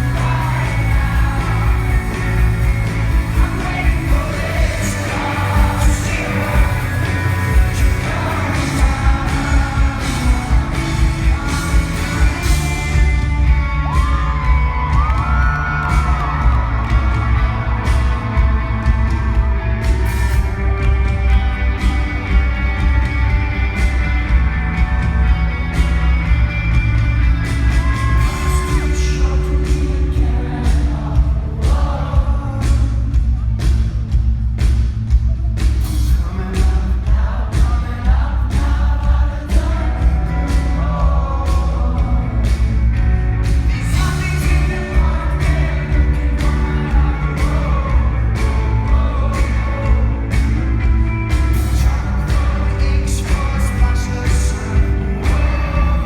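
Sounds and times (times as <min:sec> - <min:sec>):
indie rock song with vocals: 0:00.0 - 0:56.0.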